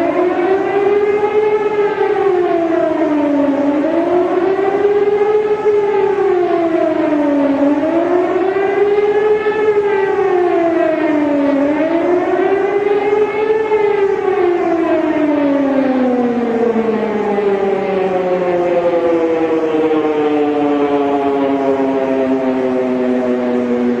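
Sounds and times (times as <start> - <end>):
emergency siren wailing: 0.0 - 24.0.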